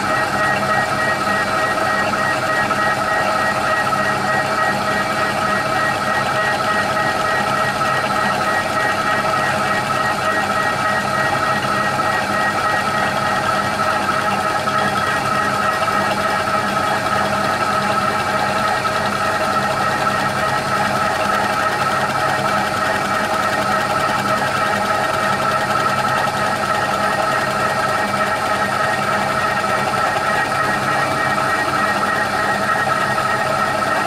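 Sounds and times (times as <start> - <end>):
milling machine whine: 0.0 - 34.0.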